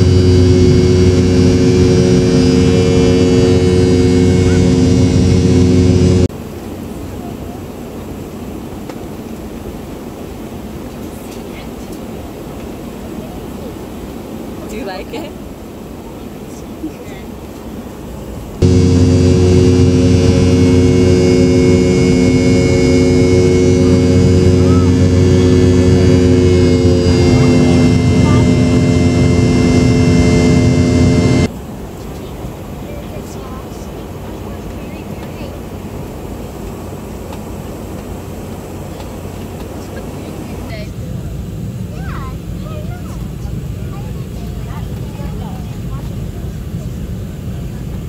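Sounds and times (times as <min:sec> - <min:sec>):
airliner engine drone: 0:00.0 - 0:48.0.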